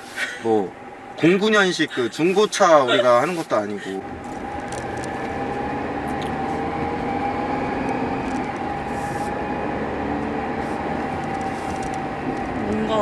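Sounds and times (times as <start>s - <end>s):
diesel engine from inside car: 0.0s - 13.0s.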